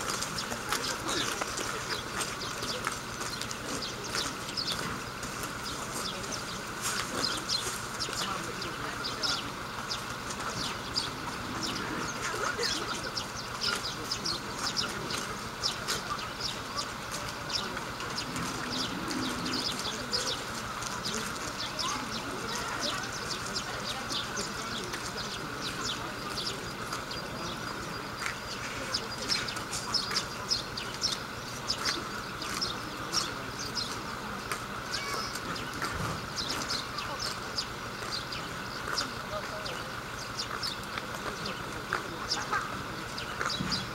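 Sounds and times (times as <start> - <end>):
faint crowd chatter: 0.0 - 43.9
small birds chirping: 0.0 - 43.9
steady background noise: 0.0 - 43.9.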